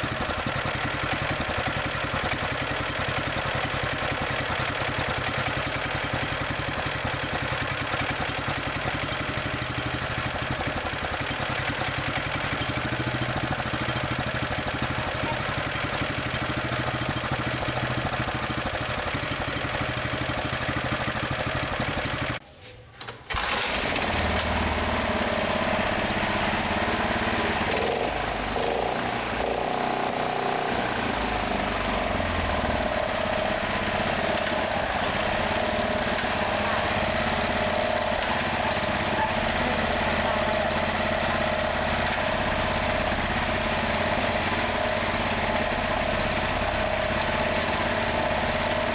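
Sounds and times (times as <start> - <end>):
small gasoline engine running: 0.0 - 22.4, 23.3 - 48.9.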